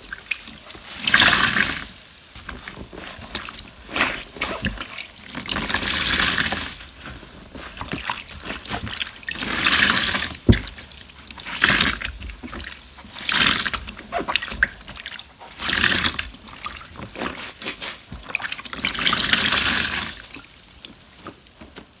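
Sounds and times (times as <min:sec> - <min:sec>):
water dripping and trickling: 0:00.0 - 0:22.0
water gushing from squeezed sponge: 0:00.0 - 0:22.0.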